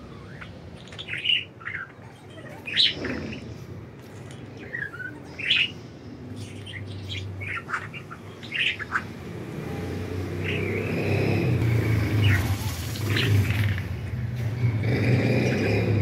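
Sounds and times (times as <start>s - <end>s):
budgerigars chirping: 0.0s - 3.7s, 4.3s - 13.6s.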